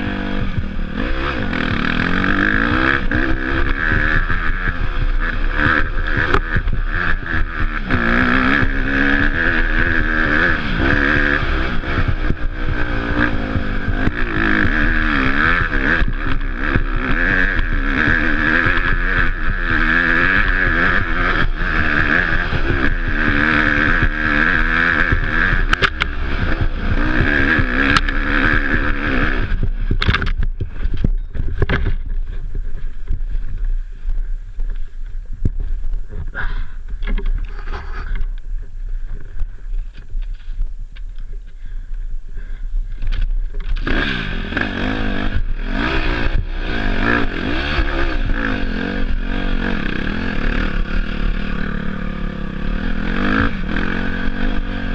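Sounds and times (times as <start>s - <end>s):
dirt bike engine revving: 0.0s - 40.5s, 41.1s - 54.9s.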